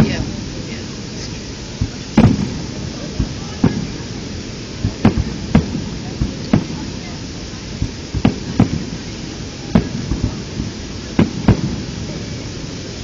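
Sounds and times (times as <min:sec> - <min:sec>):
background hiss: 0:00.0 - 0:13.0
fireworks bangs: 0:00.0 - 0:13.0.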